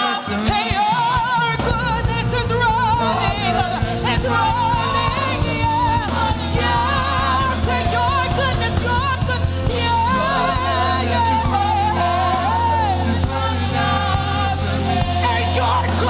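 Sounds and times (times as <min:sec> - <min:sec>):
gospel band playing: 0:00.0 - 0:16.0
singer with wide vibrato: 0:00.0 - 0:16.0
sustained bass notes: 0:01.4 - 0:16.0.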